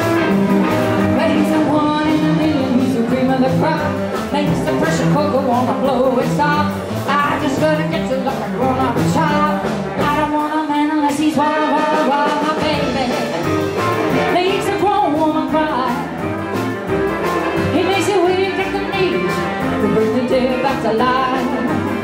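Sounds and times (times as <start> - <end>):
live blues band playing: 0.0 - 22.0.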